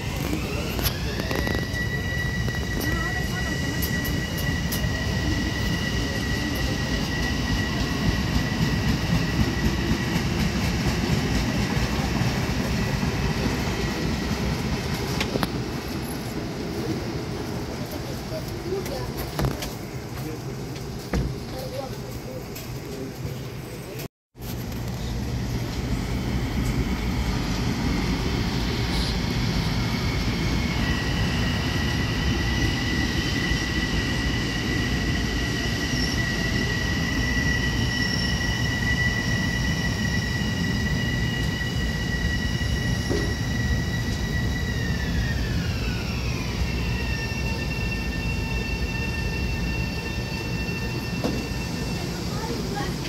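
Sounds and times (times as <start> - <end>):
high two-note train whine: 0.0 - 16.2, 25.3 - 52.9
train rumbling on tracks: 0.0 - 53.0.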